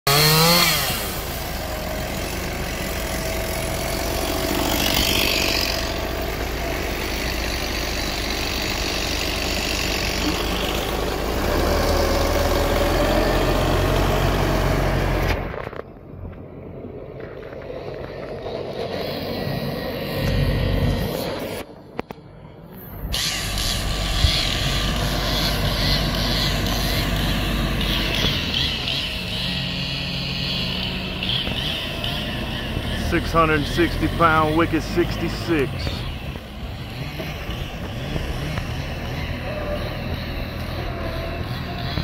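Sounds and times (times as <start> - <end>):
chainsaw revving: 0.1 - 15.5, 23.1 - 42.0
tractor diesel engine running: 0.1 - 42.0.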